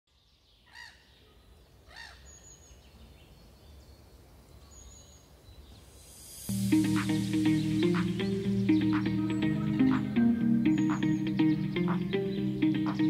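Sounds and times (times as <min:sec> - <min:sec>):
faint outdoor ambience: 0:00.1 - 0:13.0.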